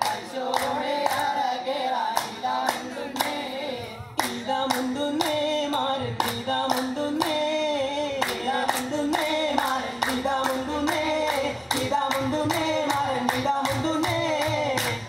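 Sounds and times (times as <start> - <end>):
men singing together: 0.0 - 15.0
rhythmic hand claps: 0.0 - 15.0.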